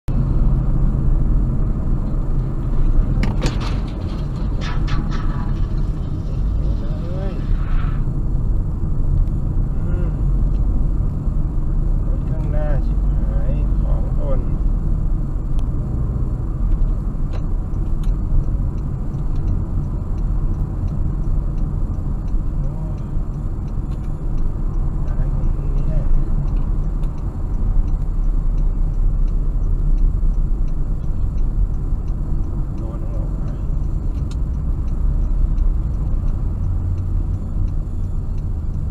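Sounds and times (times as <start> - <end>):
car driving on highway: 0.1 - 38.9
tyre road noise: 0.1 - 38.9.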